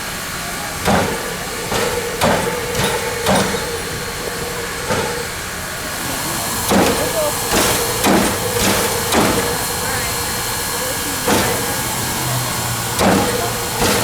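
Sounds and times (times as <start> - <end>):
steam hissing: 0.0 - 14.0
steam locomotive exhaust beats: 0.0 - 14.0.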